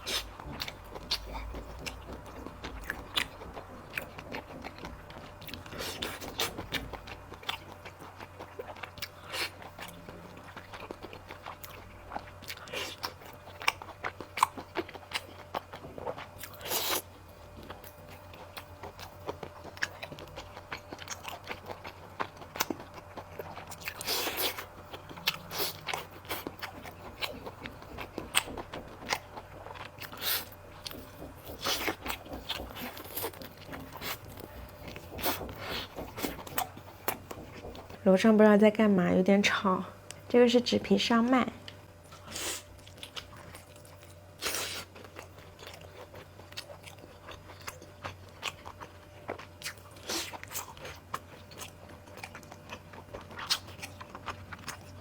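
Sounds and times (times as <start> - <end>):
wet chewing and smacking: 0.0 - 38.0, 41.6 - 55.0
steady low hum: 0.0 - 55.0.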